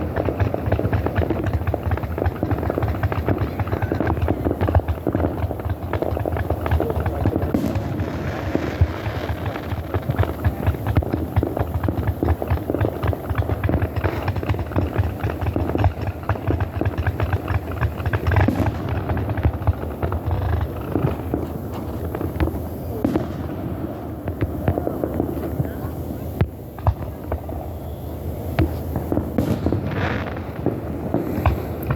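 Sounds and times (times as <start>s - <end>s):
deep fireworks booms: 0.0s - 31.9s
fireworks bangs and crackles: 0.0s - 31.9s.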